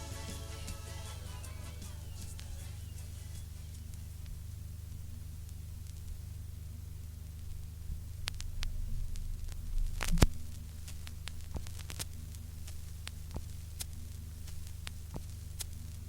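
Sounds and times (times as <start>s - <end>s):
low hum: 0.0s - 16.0s
vinyl record clicks and pops: 0.8s - 16.0s.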